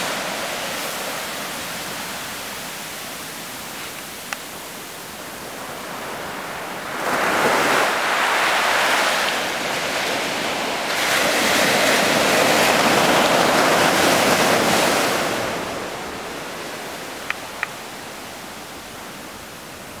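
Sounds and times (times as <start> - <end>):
ocean surf breaking on beach: 0.0 - 20.0.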